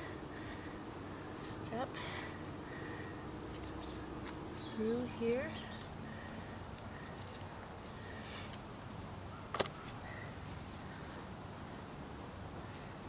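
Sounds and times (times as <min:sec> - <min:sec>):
high-pitched insect chirping: 0:00.0 - 0:12.9.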